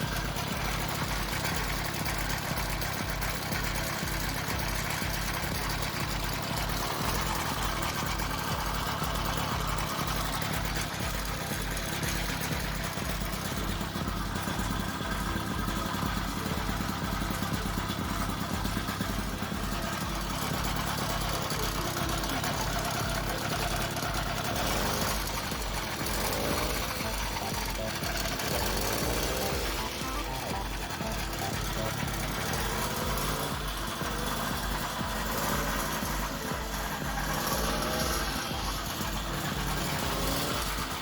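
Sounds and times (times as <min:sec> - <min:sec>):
small engine idling: 0:00.0 - 0:41.0.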